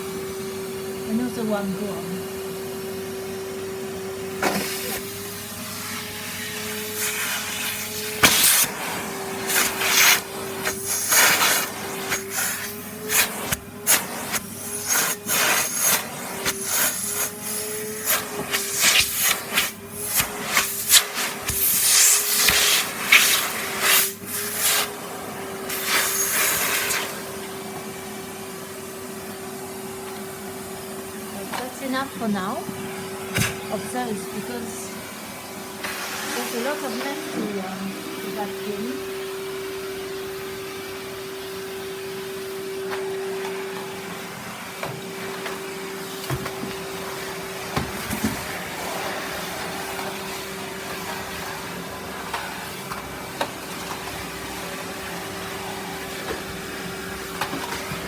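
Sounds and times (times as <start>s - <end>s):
vacuum cleaner motor whine: 0.0s - 58.0s
vacuum nozzle scraping the floor: 0.0s - 58.0s.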